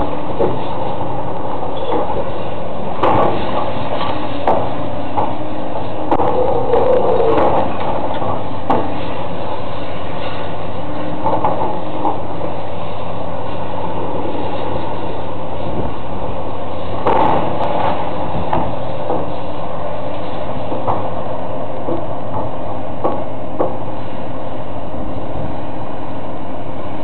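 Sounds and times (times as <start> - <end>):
heavy demolition machinery running: 0.0 - 27.0.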